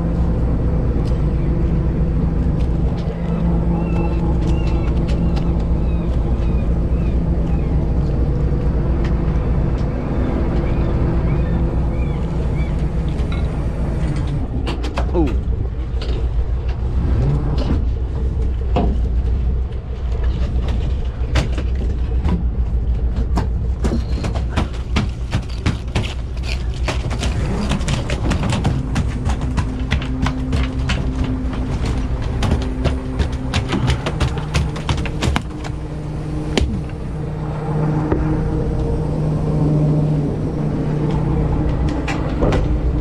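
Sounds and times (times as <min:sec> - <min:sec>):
boat engine rumbling: 0:00.0 - 0:43.0.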